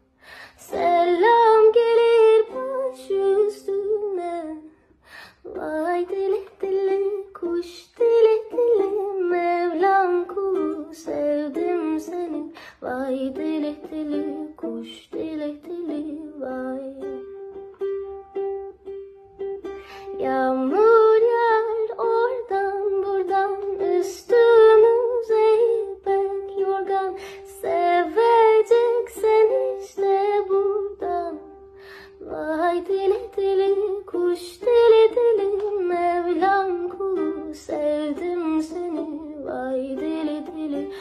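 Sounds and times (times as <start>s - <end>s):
woman singing folk melody: 0.0s - 18.8s, 19.4s - 41.0s
strummed ukulele: 0.3s - 4.7s, 5.5s - 41.0s.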